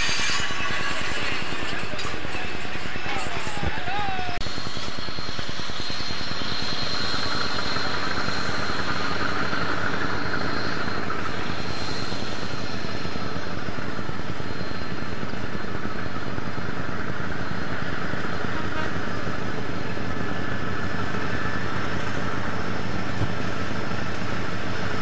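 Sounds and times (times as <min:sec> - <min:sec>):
diesel locomotive engine drone: 0:00.0 - 0:25.0
thin high whine: 0:00.0 - 0:25.0.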